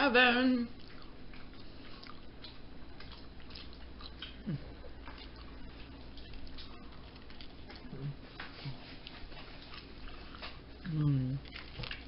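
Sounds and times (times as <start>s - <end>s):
person chewing food: 0.7s - 12.0s.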